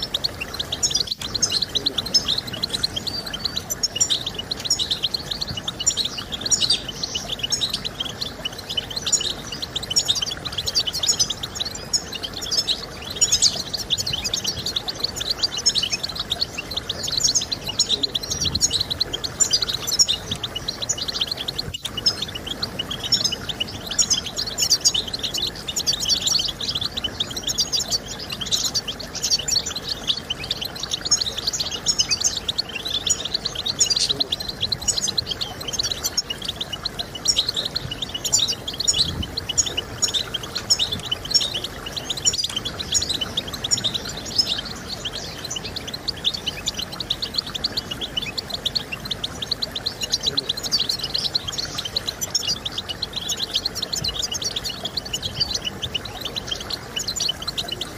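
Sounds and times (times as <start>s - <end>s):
goldfinch twittering song: 0.0s - 57.9s.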